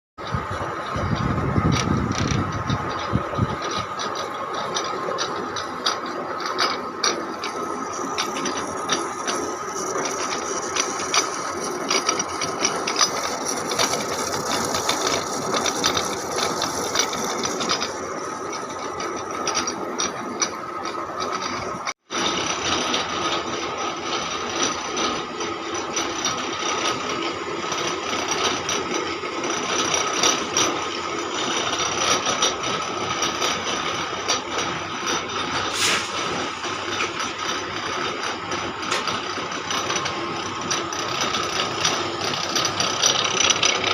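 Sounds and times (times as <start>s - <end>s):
constant machine whine: 0.2s - 43.9s
fine rapid clicking: 0.2s - 43.9s
heavy gear-driven machinery: 0.2s - 43.9s.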